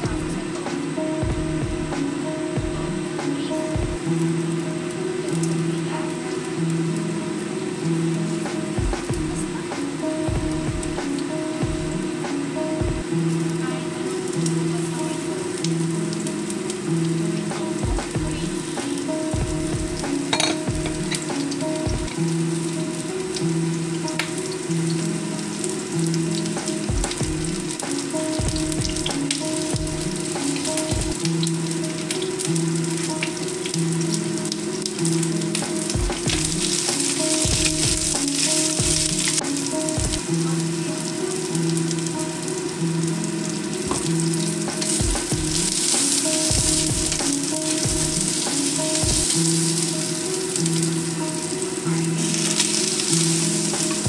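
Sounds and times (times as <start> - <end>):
low steady tones: 0.0 - 54.0
onions sizzling in a wok: 0.1 - 54.0.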